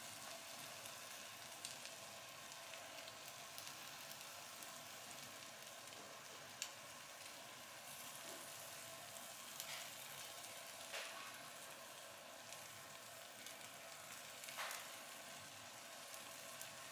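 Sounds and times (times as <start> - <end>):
food sizzling: 0.0 - 16.9.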